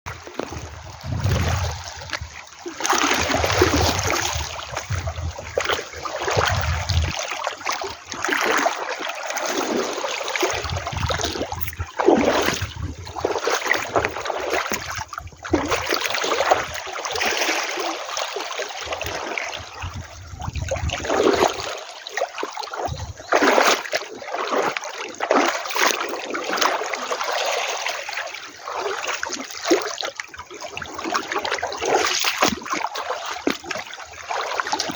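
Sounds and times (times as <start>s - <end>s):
sea water splashing at shore: 0.1s - 34.9s.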